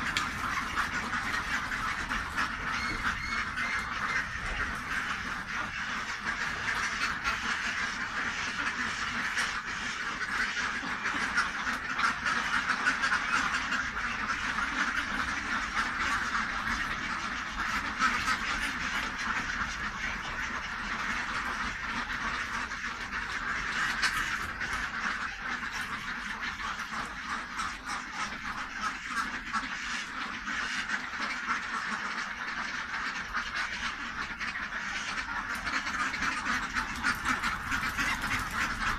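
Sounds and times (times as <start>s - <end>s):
flock of ducks quacking: 0.0s - 38.9s.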